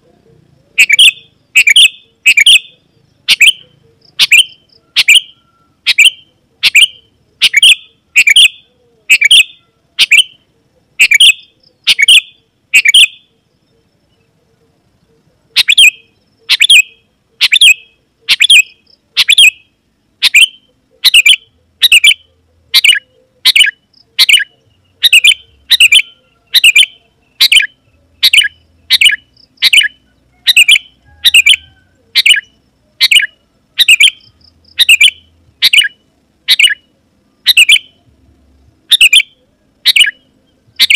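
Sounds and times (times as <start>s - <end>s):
bulbul calling in sharp notes: 0.2s - 13.5s, 15.1s - 40.9s.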